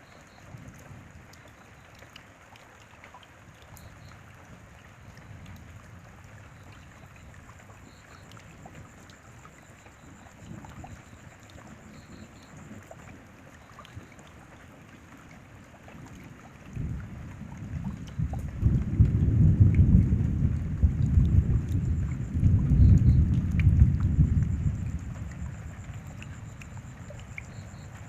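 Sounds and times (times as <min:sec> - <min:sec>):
raindrops tapping: 0:00.0 - 0:28.0
steady rain: 0:00.0 - 0:28.0.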